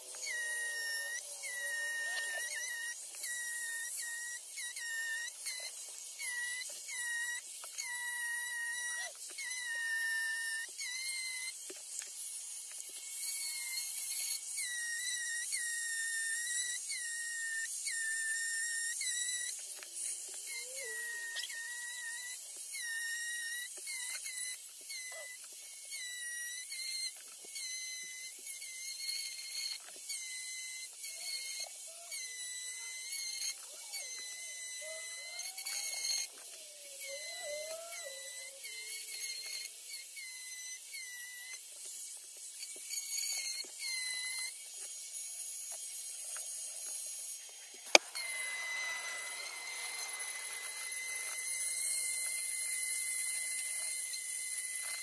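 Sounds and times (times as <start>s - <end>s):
rotary carving tool whining on wood: 0.0s - 55.0s.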